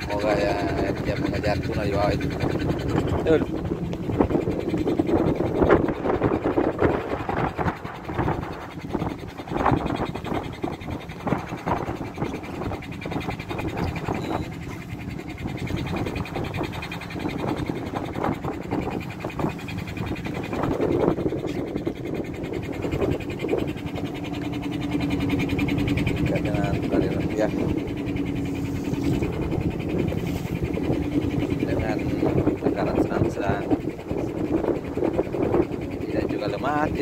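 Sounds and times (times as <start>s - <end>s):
boat motor running: 0.0s - 37.0s.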